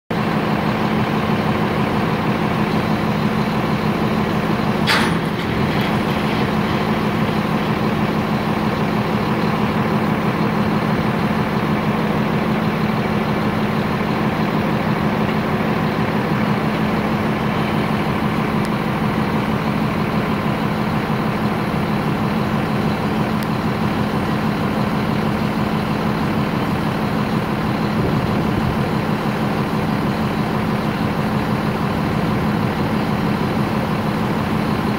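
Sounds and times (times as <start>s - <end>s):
diesel engines droning: 0.1s - 34.9s.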